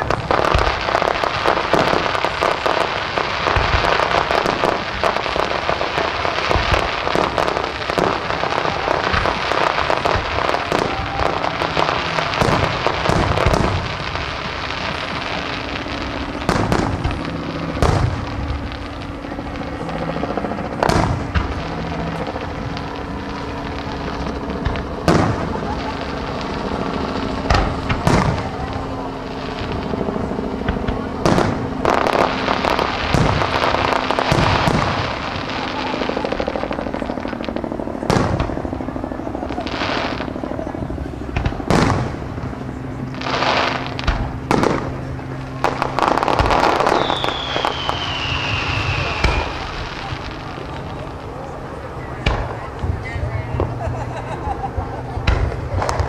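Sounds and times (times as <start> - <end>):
fireworks booms: 0.0 - 56.0
fireworks popping and crackling: 0.0 - 56.0.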